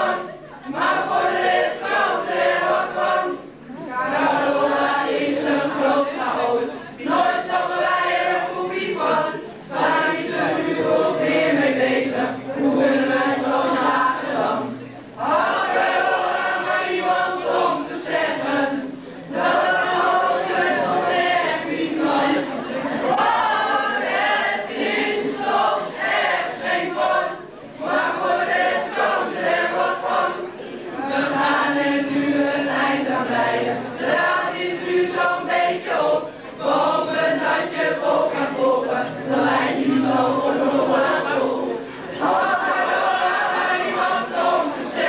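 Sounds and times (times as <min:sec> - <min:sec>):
young voices singing in chorus: 0:00.0 - 0:45.0.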